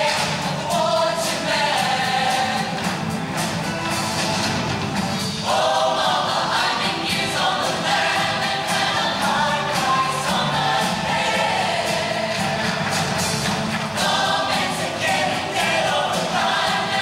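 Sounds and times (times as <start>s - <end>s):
choir singing over music: 0.0s - 17.0s.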